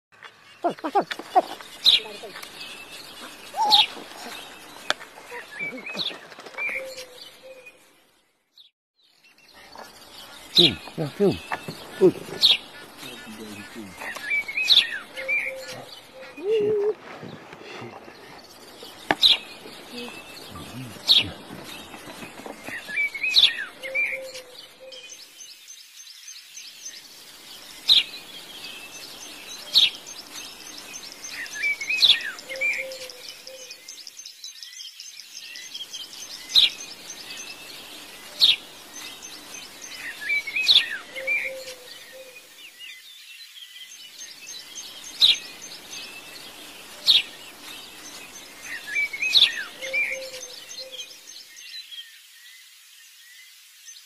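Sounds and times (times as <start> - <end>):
birds chirping and twittering: 0.2 - 54.0.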